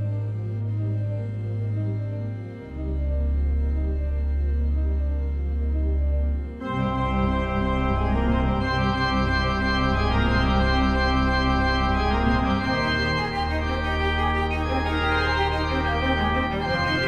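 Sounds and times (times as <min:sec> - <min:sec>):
slow sustained chords music: 0:00.0 - 0:17.0.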